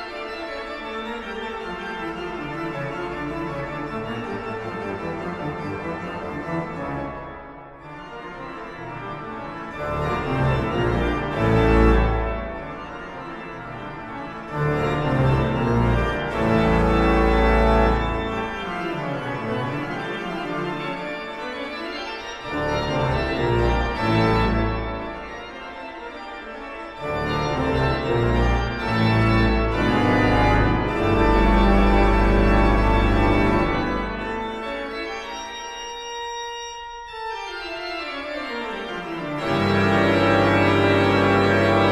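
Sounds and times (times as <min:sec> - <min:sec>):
organ chords: 0:00.0 - 0:41.9.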